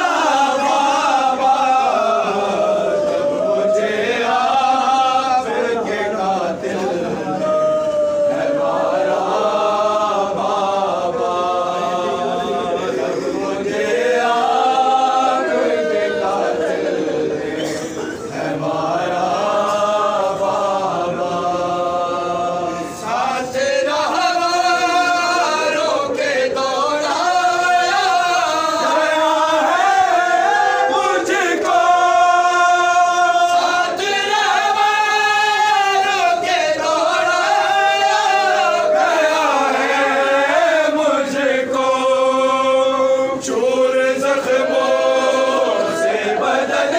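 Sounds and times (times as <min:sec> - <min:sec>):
men chanting a lament: 0:00.0 - 0:46.9.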